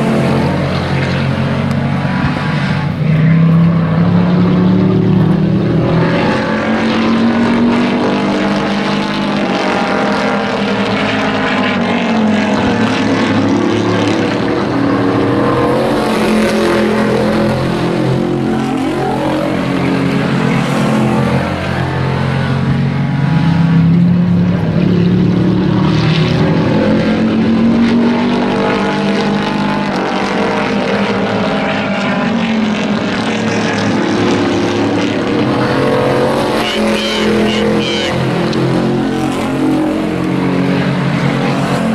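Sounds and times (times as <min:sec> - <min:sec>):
race truck engines passing: 0:00.0 - 0:41.9.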